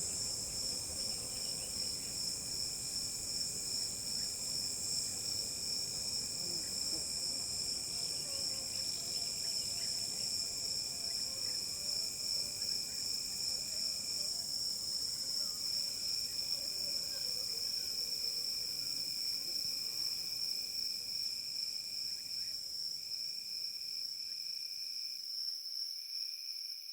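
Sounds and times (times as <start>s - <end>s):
high insect trill: 0.0s - 24.7s
lower insect trill: 0.0s - 26.9s.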